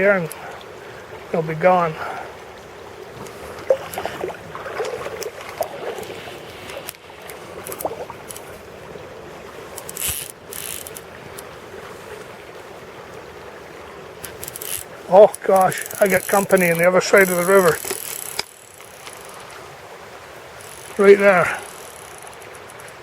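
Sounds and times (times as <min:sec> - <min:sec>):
river water running: 0:00.0 - 0:23.0.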